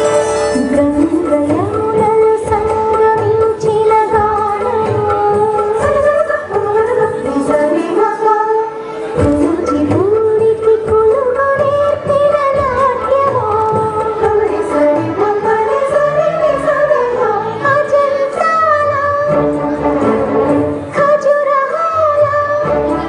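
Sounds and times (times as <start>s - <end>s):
film song with singing: 0.0s - 23.0s
instrumental accompaniment: 0.0s - 23.0s.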